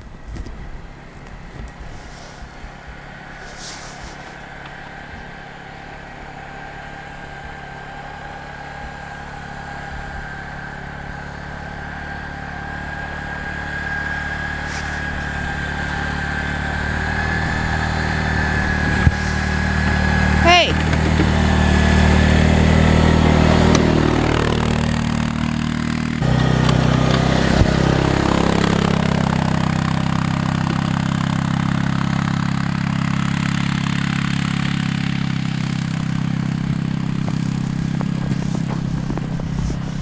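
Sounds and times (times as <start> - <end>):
atv engine plowing snow: 0.0 - 40.0.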